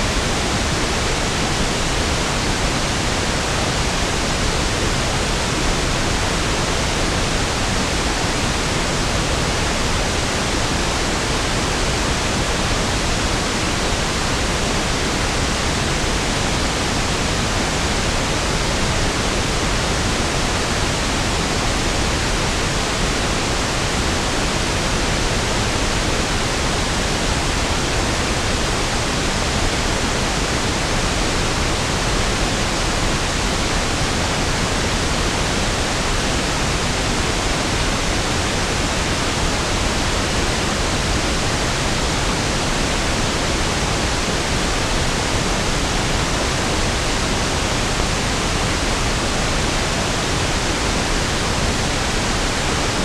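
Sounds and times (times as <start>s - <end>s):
pink noise hiss: 0.0s - 53.0s.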